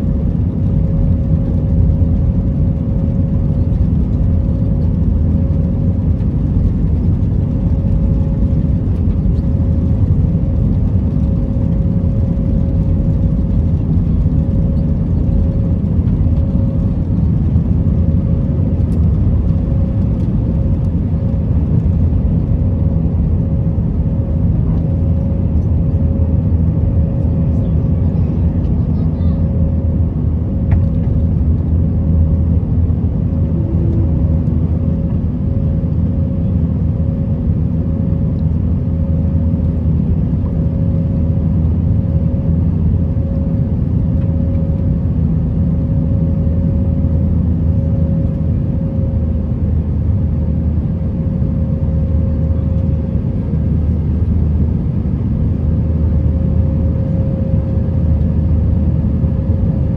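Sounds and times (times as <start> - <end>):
airliner cabin rumble: 0.0 - 59.9
pulsing hum: 0.0 - 59.9.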